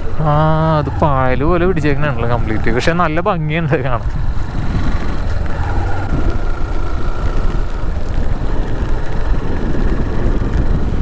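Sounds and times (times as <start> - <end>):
motorcycle engine drone: 0.0 - 11.0
wind rumble on microphone: 0.0 - 11.0.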